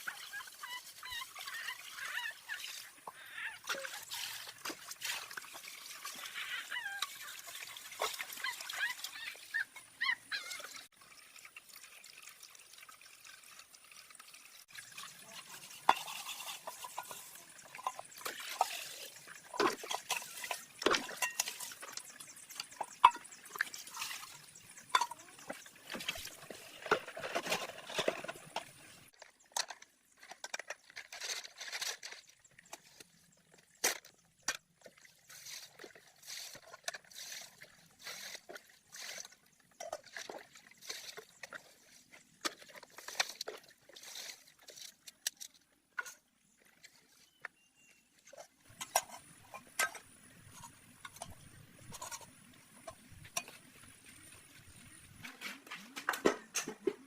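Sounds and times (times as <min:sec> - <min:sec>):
water sloshing and splashing: 0:00.0 - 0:57.0.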